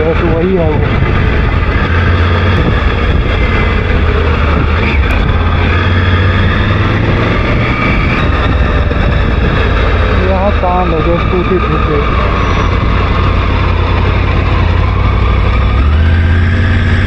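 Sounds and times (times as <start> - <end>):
wind rushing: 0.0 - 16.4
motorcycle engine running: 0.0 - 17.0.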